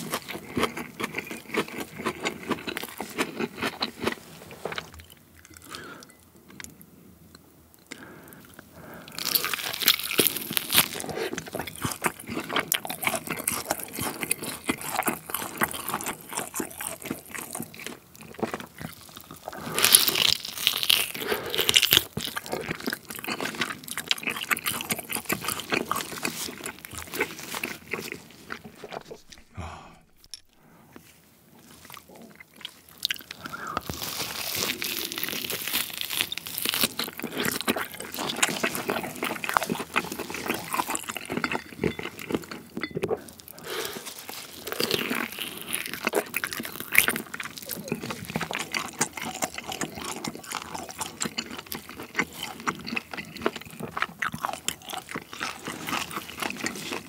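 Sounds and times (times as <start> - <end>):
biting and chewing meat: 0.0 - 6.8, 7.9 - 57.0.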